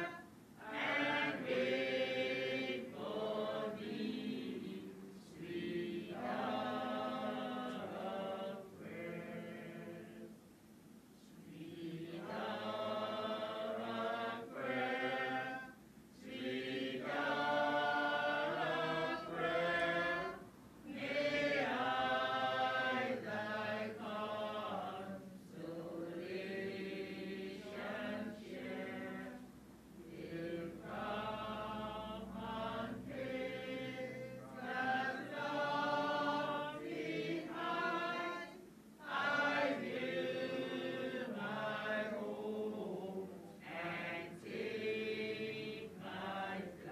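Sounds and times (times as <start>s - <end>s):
voices singing slow song: 0.0s - 46.9s.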